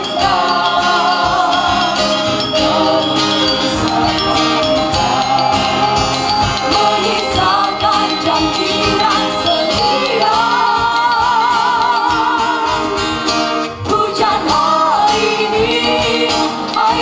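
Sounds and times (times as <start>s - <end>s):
wavering melody line: 0.0s - 17.0s.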